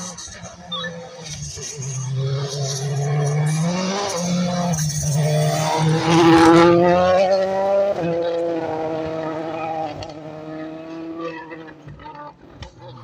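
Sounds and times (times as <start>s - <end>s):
rally car accelerating: 0.0s - 13.0s.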